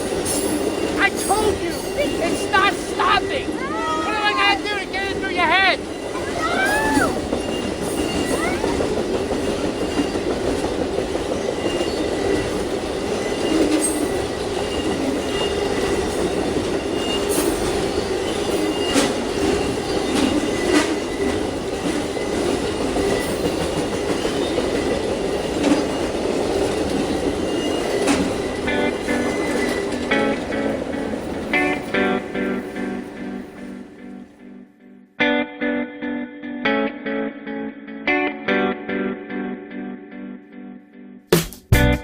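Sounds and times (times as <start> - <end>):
railroad cars rolling past: 0.0 - 34.6.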